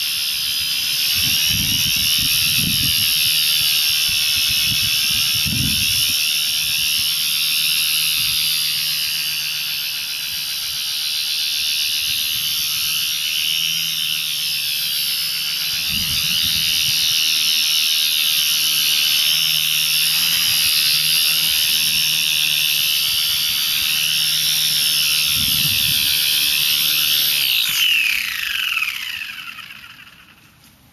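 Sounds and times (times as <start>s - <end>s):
model helicopter motor and rotors whining: 0.0s - 30.9s.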